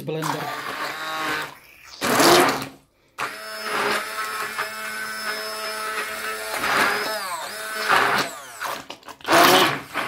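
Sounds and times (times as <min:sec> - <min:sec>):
hand blender pureeing: 0:00.2 - 0:10.0.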